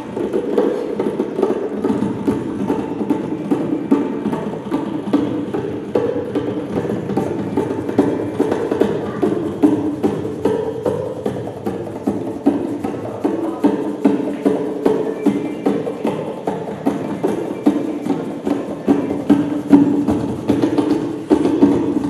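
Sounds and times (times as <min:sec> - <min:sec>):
hand drums playing fast strokes: 0:00.0 - 0:22.0.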